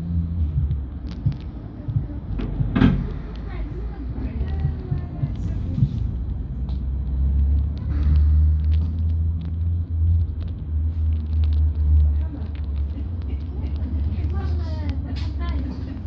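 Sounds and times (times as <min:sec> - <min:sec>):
trolleybus drone and rumble: 0:00.0 - 0:16.0.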